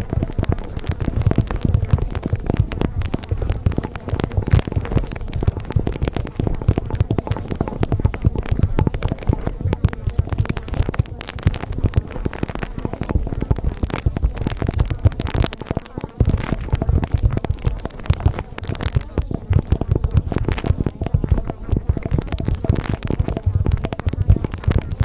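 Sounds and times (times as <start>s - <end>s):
crackling and popping: 0.0s - 25.0s.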